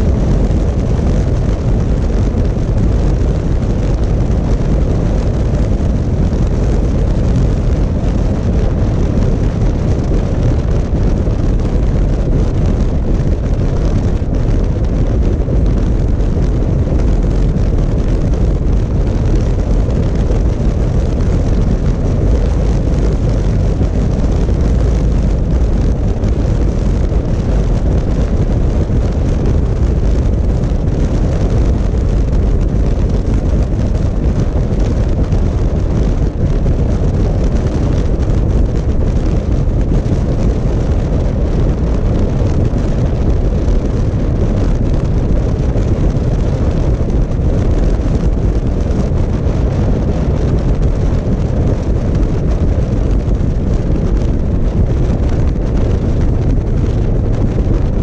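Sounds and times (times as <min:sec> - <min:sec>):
motorcycle engine rumble: 0:00.0 - 0:58.0
wind rush: 0:00.0 - 0:58.0.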